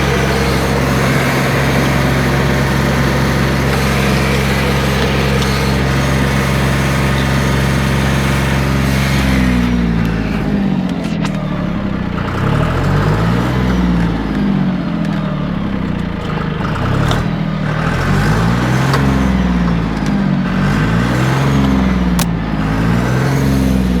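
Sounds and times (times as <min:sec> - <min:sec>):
engine running unevenly: 0:00.0 - 0:24.0.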